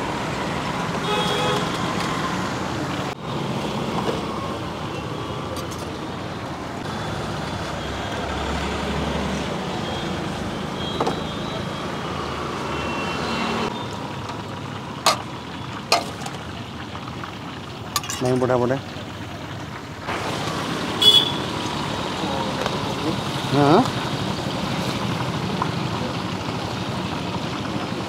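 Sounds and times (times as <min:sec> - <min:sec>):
roadside traffic noise: 0:00.0 - 0:28.0.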